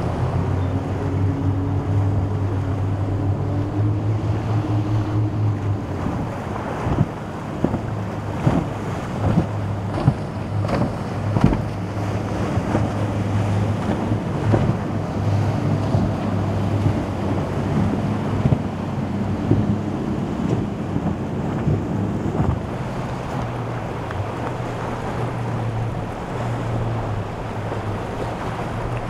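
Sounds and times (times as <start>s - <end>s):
boat engine hum: 0.0s - 29.0s
waves washing: 0.0s - 29.0s
wind buffeting microphone: 0.0s - 29.0s.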